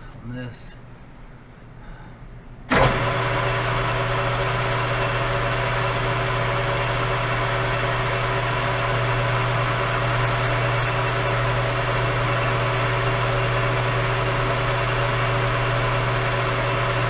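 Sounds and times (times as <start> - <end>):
lathe spindle humming: 2.7 - 17.0.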